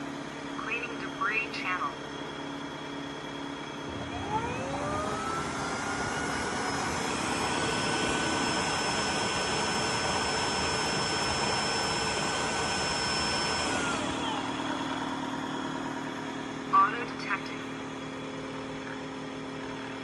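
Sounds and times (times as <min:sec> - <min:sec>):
high whine: 0:00.0 - 0:19.0
vacuum suction motor whining: 0:01.9 - 0:20.0.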